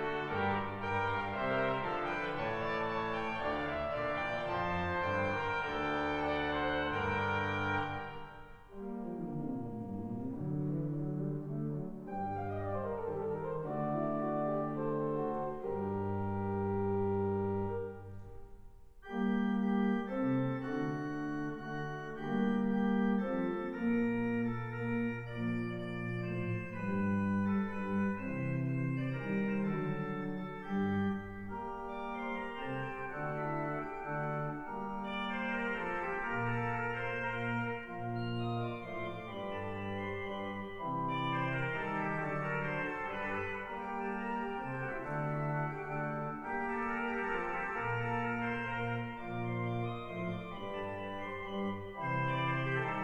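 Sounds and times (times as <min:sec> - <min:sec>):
pipe organ classical piece: 0:00.0 - 0:53.0.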